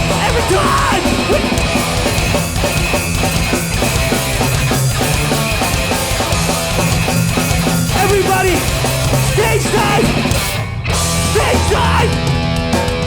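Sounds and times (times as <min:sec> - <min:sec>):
bass guitar: 0:00.0 - 0:13.0
distorted electric guitars: 0:00.0 - 0:13.0
drums beating: 0:00.0 - 0:13.0.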